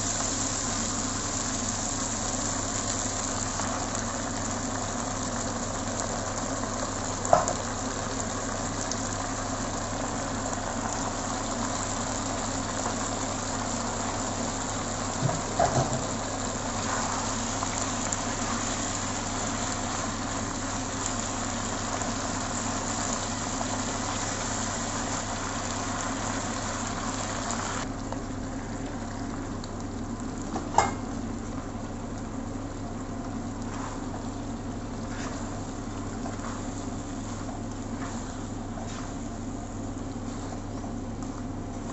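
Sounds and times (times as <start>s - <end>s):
food sizzling in a wok: 0.0s - 27.9s, 33.4s - 40.6s.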